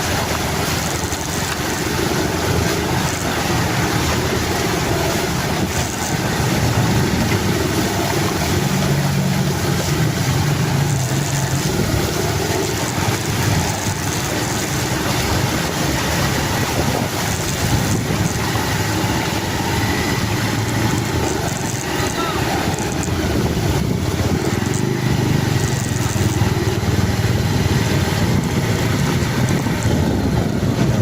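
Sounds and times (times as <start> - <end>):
rush of water noise: 0.0 - 31.0
vehicle engine running: 0.0 - 31.0
wind buffeting microphone: 0.0 - 31.0.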